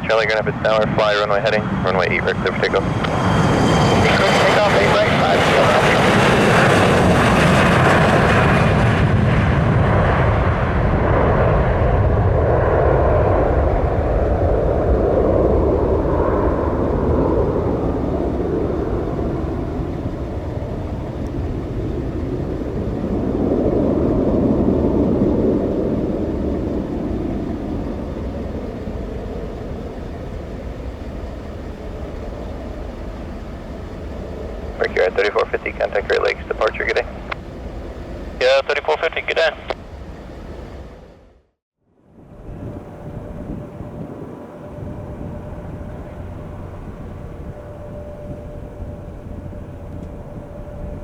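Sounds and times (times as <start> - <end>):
jet taking off: 0.0 - 51.0.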